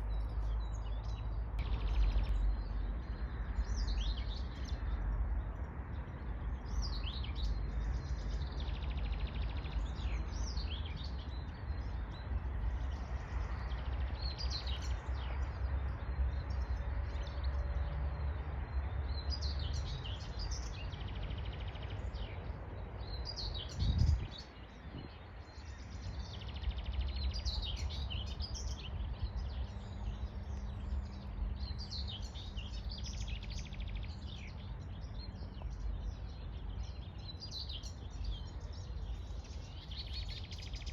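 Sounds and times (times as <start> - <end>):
low rumble of wind: 0.0 - 40.9
songbirds singing and chirping: 0.0 - 40.9.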